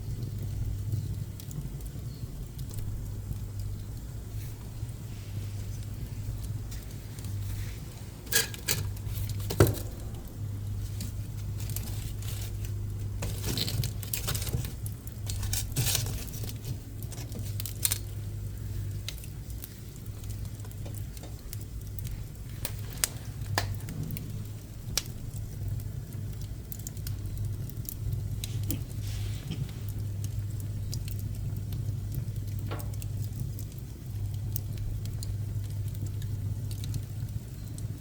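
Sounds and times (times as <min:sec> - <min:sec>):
steady low hum: 0:00.0 - 0:38.0
wood crackling in a stove: 0:00.0 - 0:38.0.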